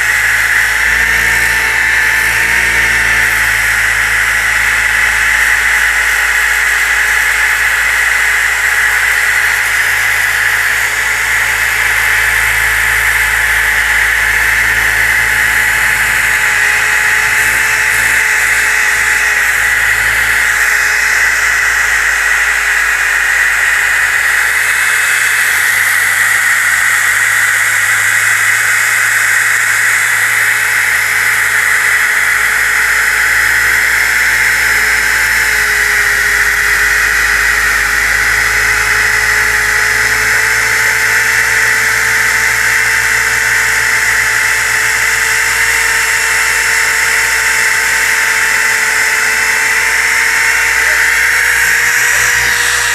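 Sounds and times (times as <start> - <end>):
electric sander motor whine: 0.0 - 52.9
sanding pad hissing on wood: 0.0 - 52.9.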